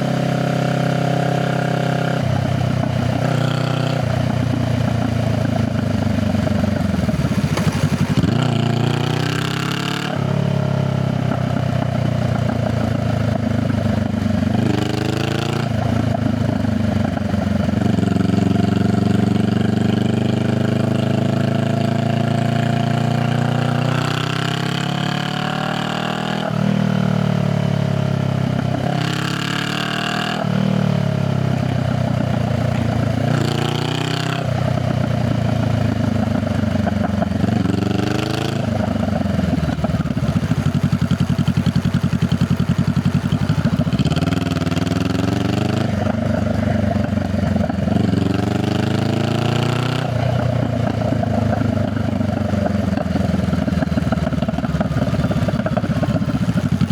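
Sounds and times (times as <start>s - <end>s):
motorcycle exhaust revving through gears: 0.0s - 56.9s.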